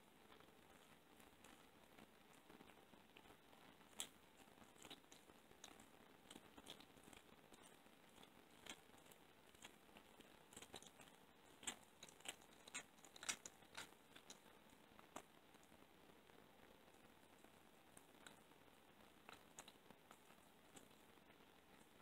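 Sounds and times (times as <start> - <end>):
cat chewing bone: 0.3 - 15.7, 16.9 - 21.9.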